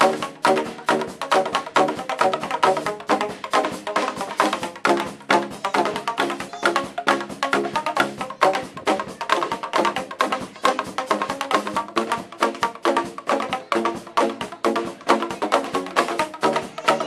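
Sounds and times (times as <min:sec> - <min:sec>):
clicky percussion beat: 0:00.0 - 0:17.0.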